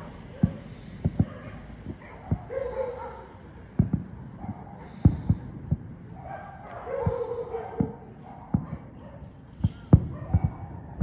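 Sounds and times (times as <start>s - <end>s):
fireworks bangs: 0.0s - 2.7s, 3.4s - 11.0s
dog barking: 0.0s - 3.4s, 4.4s - 5.0s, 6.1s - 11.0s.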